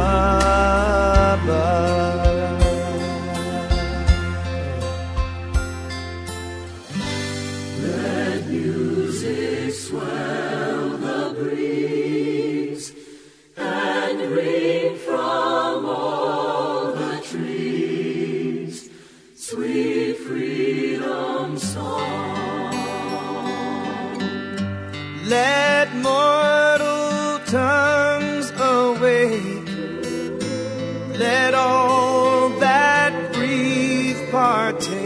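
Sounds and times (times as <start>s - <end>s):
music with voices singing long notes: 0.0s - 35.0s.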